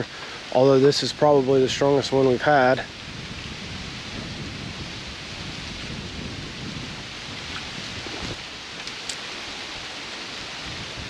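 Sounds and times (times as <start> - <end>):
wind rumbling on microphone: 0.0 - 11.0
wind through tossing leaves: 0.0 - 11.0.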